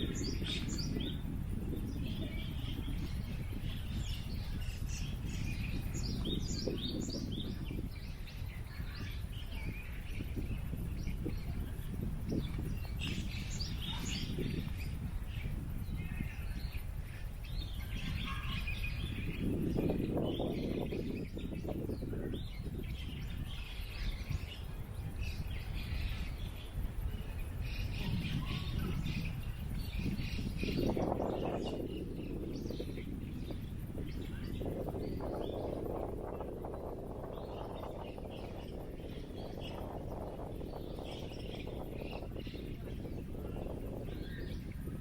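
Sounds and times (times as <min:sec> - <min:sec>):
low wind rumble: 0:00.0 - 0:45.0
small birds chirping: 0:00.0 - 0:45.0.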